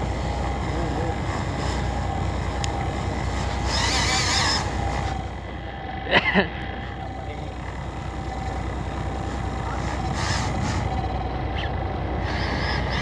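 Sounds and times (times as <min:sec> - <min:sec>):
boat engine running: 0:00.0 - 0:13.0
faint steady tone: 0:00.0 - 0:13.0.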